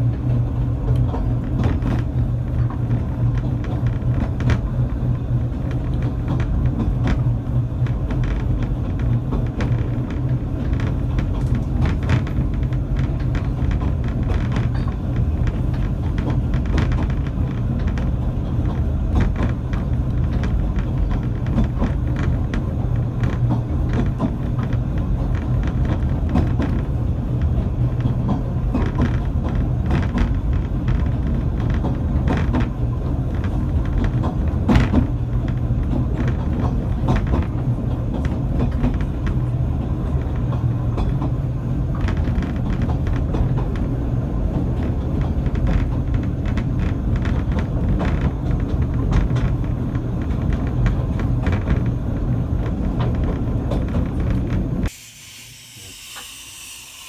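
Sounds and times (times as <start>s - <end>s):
railway carriage wheels rumbling: 0.0s - 54.9s
clicks and rattles: 5.5s - 54.9s.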